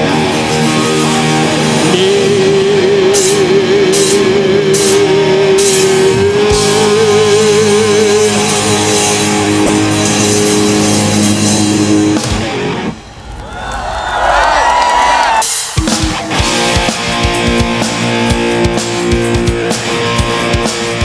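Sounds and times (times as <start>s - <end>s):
heavy metal band playing live: 0.0s - 13.4s, 15.4s - 21.0s.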